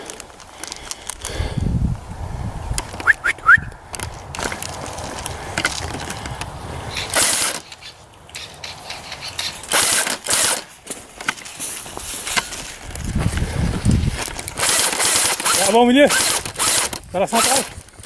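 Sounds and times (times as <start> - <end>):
rustling noise: 0.0 - 18.0.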